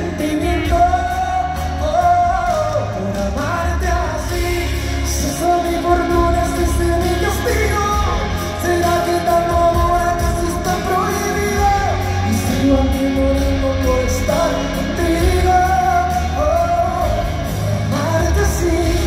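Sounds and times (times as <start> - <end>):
live pop band playing: 0.0 - 19.0
man singing long notes: 0.0 - 19.0.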